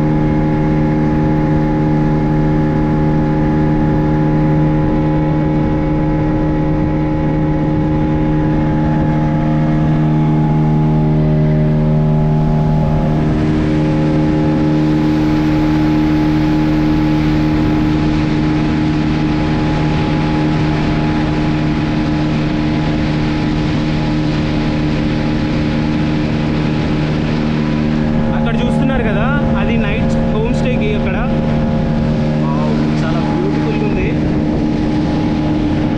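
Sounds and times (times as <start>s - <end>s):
rushing water and wind: 0.0s - 35.9s
speed boat engine running: 0.0s - 35.9s.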